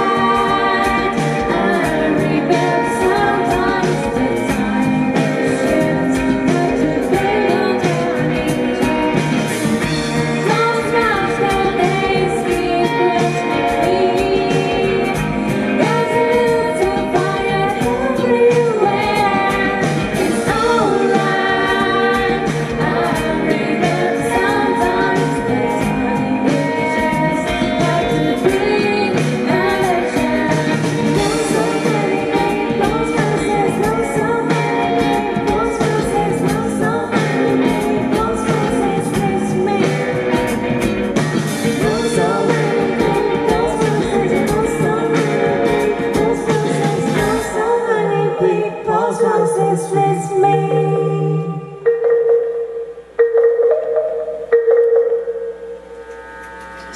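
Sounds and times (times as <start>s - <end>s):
drum kit: 0.0s - 48.0s
woman singing lead: 0.0s - 52.1s
electric guitars: 0.0s - 56.9s.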